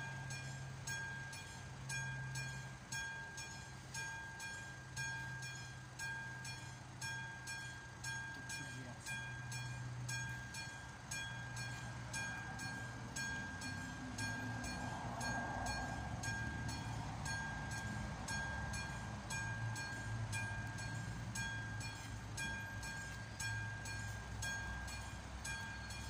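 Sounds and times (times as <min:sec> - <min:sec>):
low steady hum: 0:00.0 - 0:26.0
mechanical crossing bell ringing: 0:00.0 - 0:26.0.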